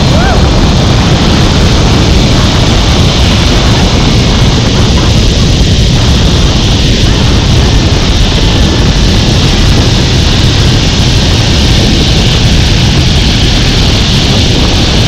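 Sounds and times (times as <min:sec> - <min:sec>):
deep rumble: 0:00.0 - 0:15.0
wind buffeting microphone: 0:00.0 - 0:15.0.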